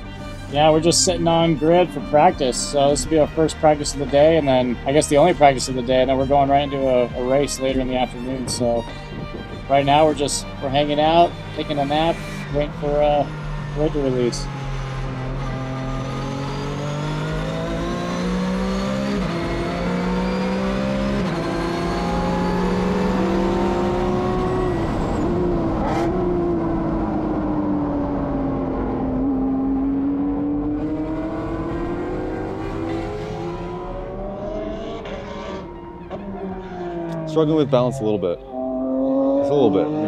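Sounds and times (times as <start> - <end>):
race car engine at speed: 0.0 - 40.0.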